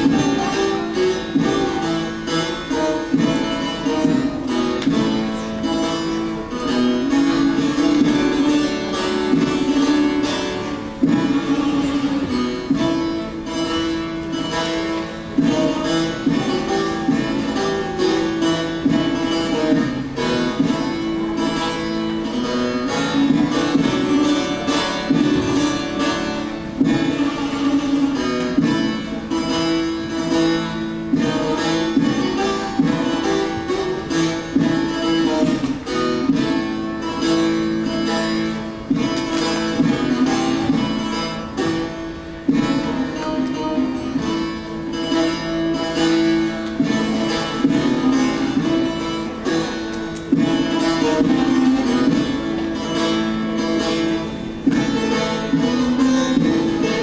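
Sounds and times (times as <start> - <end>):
plucked long-necked lute melody: 0.0 - 57.0.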